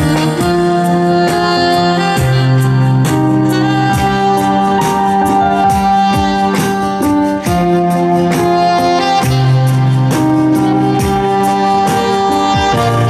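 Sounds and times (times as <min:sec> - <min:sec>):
jazz band playing a slow ballad: 0:00.0 - 0:13.0.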